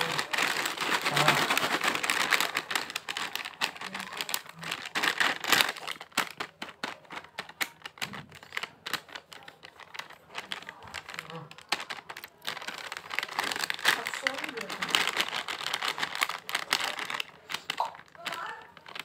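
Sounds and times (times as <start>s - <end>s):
plastic snack packet crinkling: 0.0s - 19.0s.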